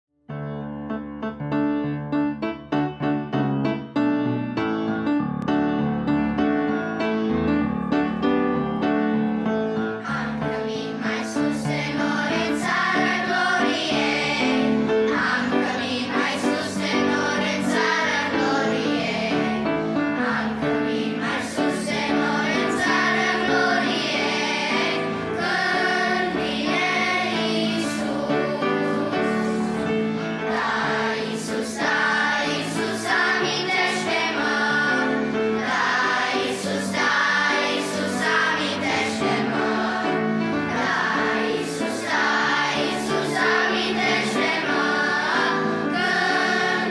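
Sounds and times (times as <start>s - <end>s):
piano accompaniment: 0.2s - 46.9s
children's choir singing a hymn: 6.6s - 46.9s.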